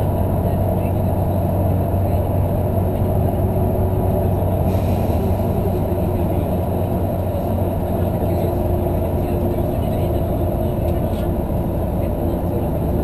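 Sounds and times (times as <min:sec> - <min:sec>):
bus engine and road drone: 0:00.0 - 0:13.0.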